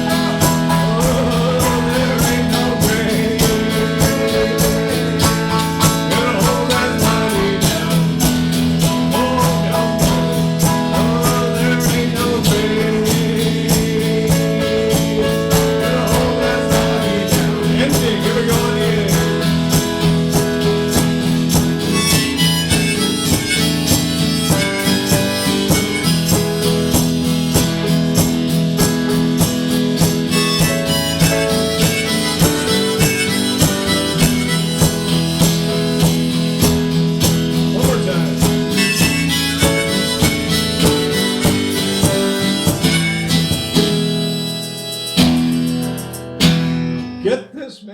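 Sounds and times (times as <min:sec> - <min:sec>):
harmonica playing bluesy tune: 0:00.0 - 0:46.4
strummed guitar: 0:00.0 - 0:47.9.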